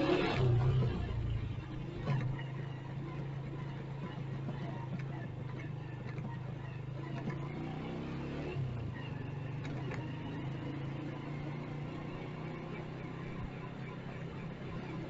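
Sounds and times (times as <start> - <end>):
faint road and traffic noise: 0.0 - 15.0
motorcycle engine running: 0.0 - 15.0.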